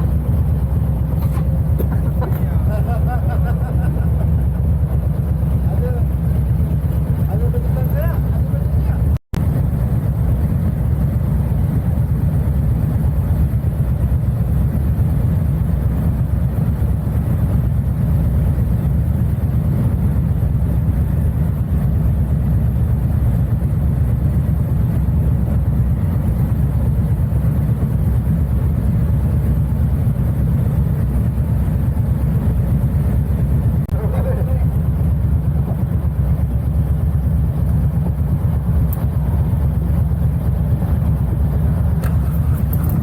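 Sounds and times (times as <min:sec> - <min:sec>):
vehicle running: 0:00.0 - 0:43.0.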